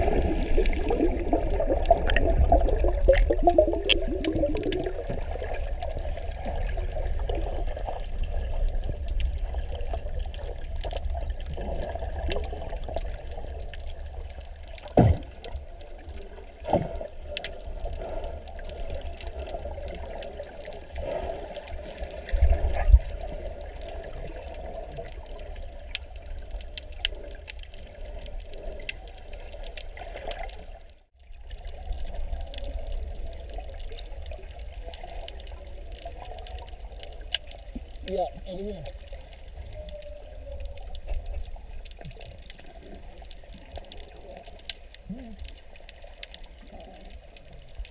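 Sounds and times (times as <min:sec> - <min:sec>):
underwater water rumble and sloshing: 0:00.0 - 0:47.9.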